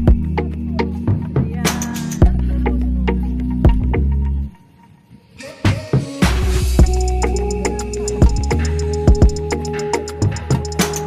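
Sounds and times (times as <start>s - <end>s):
background music with bass and drums: 0.0s - 4.5s, 6.2s - 11.0s.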